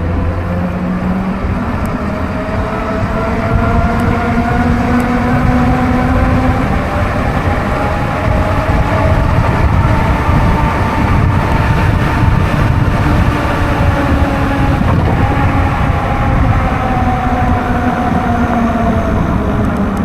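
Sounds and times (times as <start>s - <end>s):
electric motor whine: 0.0s - 20.0s
wind rumbling on microphone: 0.0s - 20.0s.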